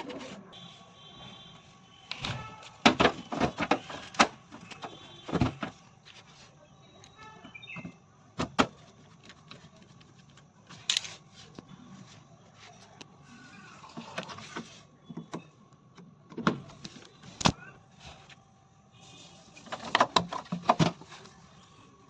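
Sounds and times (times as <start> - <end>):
faint whirring or squeaking: 0.0 - 22.0.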